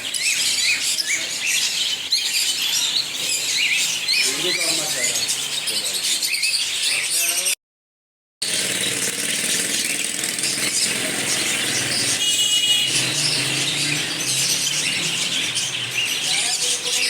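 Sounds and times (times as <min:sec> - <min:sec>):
parrots chattering and squawking: 0:00.0 - 0:07.6, 0:08.4 - 0:17.0.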